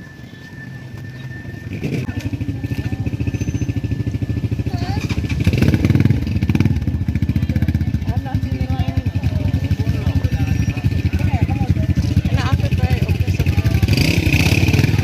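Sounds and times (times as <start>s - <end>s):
motor engine throbbing: 0.0s - 15.0s.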